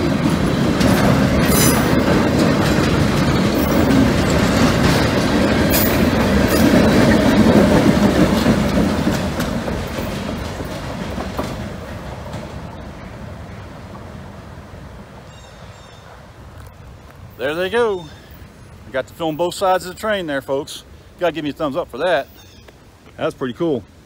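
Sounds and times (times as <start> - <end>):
freight train wheels rumbling and clacking: 0.0 - 22.3
locomotive passing: 0.0 - 22.4.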